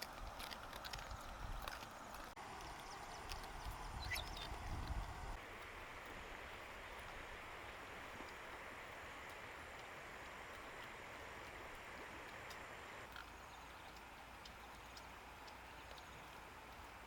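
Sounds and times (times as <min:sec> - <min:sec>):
small ticks: 0:00.0 - 0:06.2, 0:08.0 - 0:17.0
faint outdoor hiss: 0:00.0 - 0:17.0.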